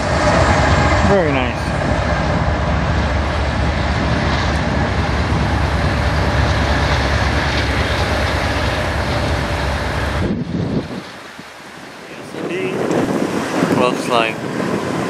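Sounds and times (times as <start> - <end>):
train engines and wheels rumbling: 0.0 - 15.0.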